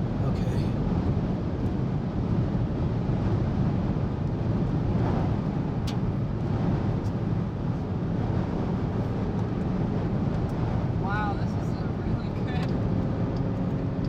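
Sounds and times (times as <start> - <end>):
low rumbling inside vehicle: 0.0 - 14.0.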